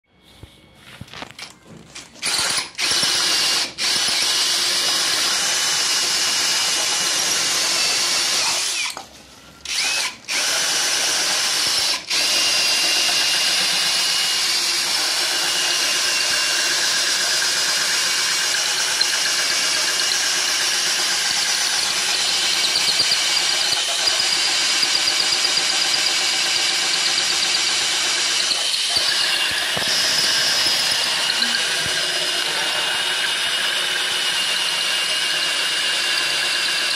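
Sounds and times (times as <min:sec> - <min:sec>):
cordless drill boring into shell: 0:02.2 - 0:09.0, 0:09.6 - 0:36.9.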